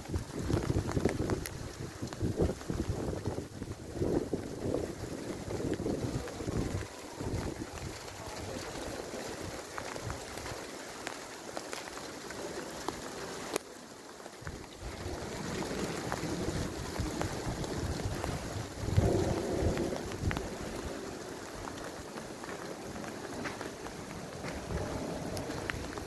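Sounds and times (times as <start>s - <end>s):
wind buffeting microphone: 0.0s - 10.6s, 14.4s - 26.0s
hailstones ticking: 0.0s - 26.0s
rain hissing on wet street: 0.0s - 26.0s.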